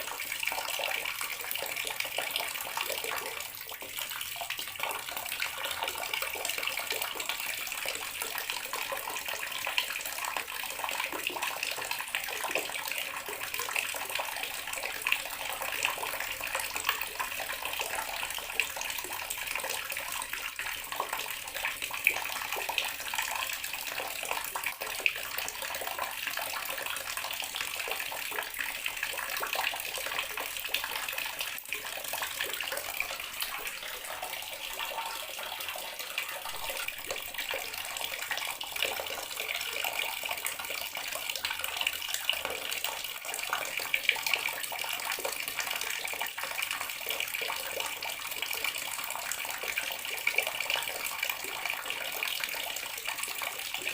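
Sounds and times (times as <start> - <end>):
tap water running into sink: 0.0 - 47.3.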